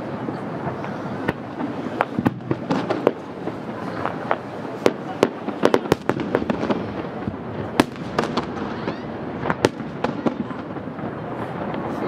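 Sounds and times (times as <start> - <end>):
firework crackle: 0.0 - 12.0
firework shells bursting: 1.3 - 11.2.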